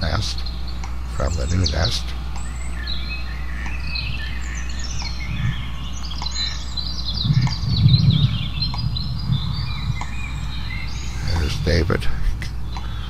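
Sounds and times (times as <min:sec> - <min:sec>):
birds chirping: 0:00.0 - 0:13.0
low background hum: 0:00.0 - 0:13.0
low rumble: 0:00.0 - 0:13.0.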